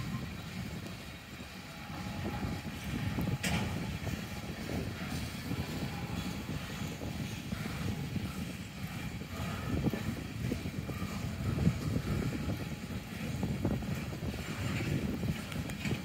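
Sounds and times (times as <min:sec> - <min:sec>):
steel wheels rumbling on rails: 0:00.0 - 0:16.0
train car clicks and clunks: 0:00.2 - 0:16.0.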